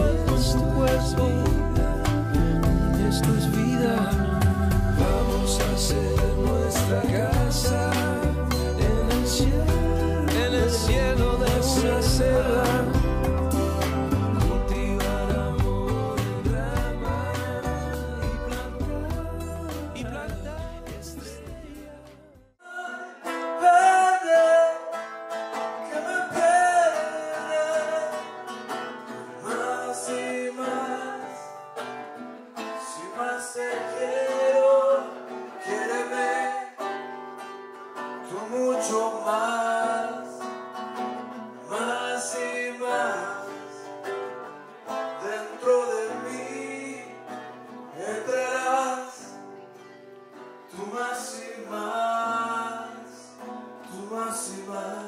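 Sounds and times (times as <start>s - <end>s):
man singing into microphone: 0.0s - 28.5s, 29.4s - 31.6s, 32.7s - 37.0s, 38.2s - 40.5s, 41.6s - 44.1s, 44.8s - 49.5s, 50.7s - 55.0s
acoustic guitar: 0.0s - 55.0s.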